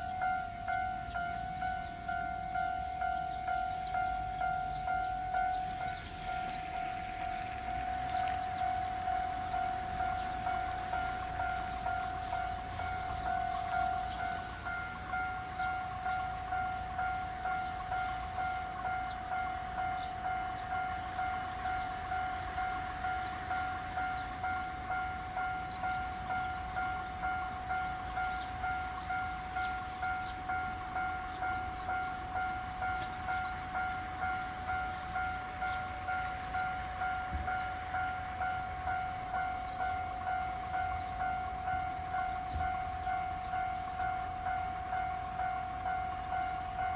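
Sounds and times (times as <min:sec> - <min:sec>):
level-crossing warning bell ringing: 0:00.0 - 0:46.9.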